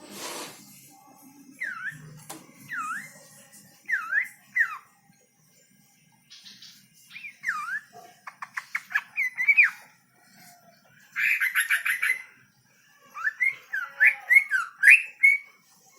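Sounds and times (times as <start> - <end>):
songbird singing: 1.5 - 15.9.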